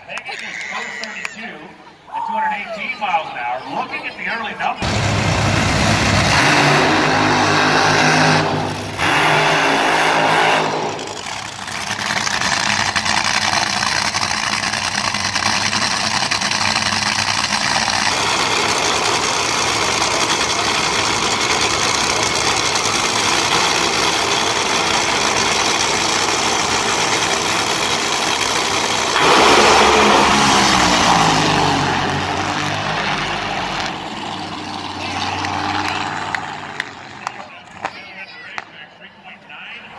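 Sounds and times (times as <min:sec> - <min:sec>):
dragster engines revving: 0:03.8 - 0:37.9
dragster engines idling: 0:04.0 - 0:37.9
dragsters launching at full throttle: 0:04.6 - 0:37.9.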